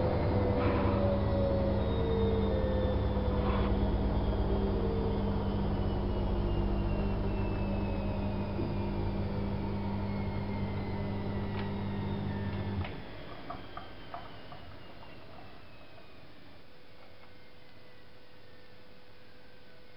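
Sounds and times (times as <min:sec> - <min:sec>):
steady machine hum: 0:00.0 - 0:19.9
washing machine spin whine: 0:00.0 - 0:19.9.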